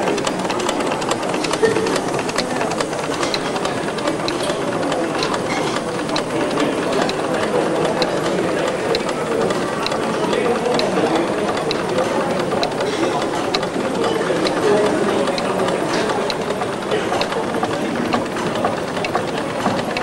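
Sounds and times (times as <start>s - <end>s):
model heat engine running: 0.0s - 20.0s.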